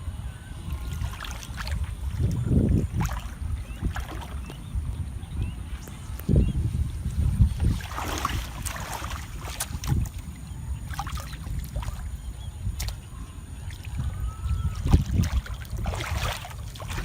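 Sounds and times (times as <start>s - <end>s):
wind rumble on microphone: 0.0s - 17.0s
water sloshing and splashing: 0.5s - 5.0s, 5.7s - 17.0s.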